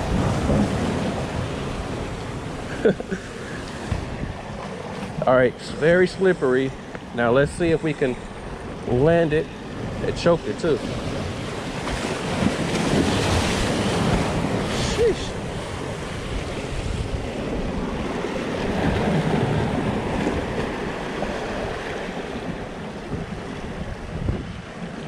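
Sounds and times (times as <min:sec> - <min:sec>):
surf breaking over rocks: 0:00.0 - 0:25.0
wind buffeting microphone: 0:03.5 - 0:25.0.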